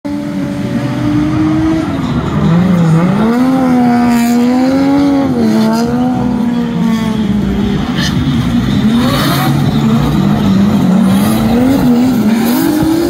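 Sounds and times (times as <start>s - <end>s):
car engine at high revs: 0.1s - 13.0s.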